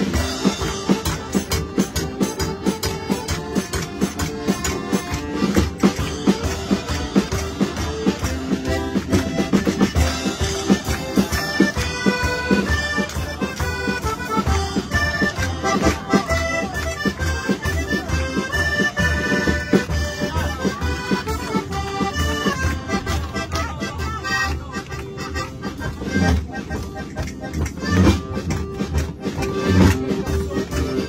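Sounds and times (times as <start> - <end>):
accordion playing lively tune: 0.0 - 31.0
hand percussion beat: 0.0 - 31.0.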